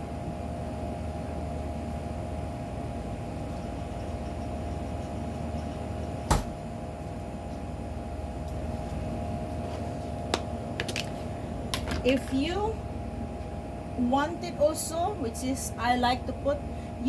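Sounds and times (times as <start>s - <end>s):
appliance fan humming: 0.0s - 17.0s.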